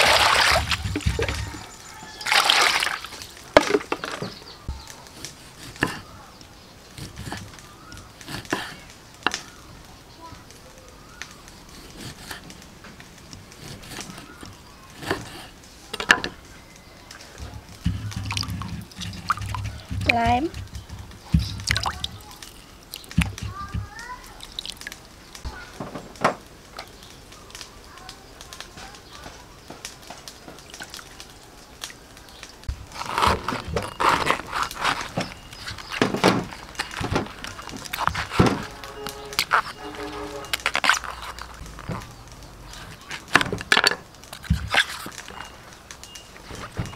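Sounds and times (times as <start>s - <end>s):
banana bracts crackling and tearing: 0.0s - 46.9s.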